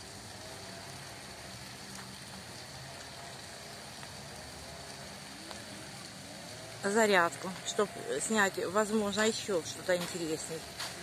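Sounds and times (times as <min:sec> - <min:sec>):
outdoor ambience hiss: 0:00.0 - 0:11.0.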